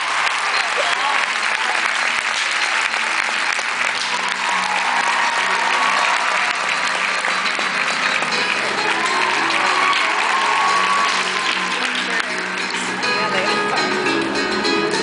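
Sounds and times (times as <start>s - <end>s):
audience applauding: 0.0s - 14.4s
music playing: 0.0s - 15.0s.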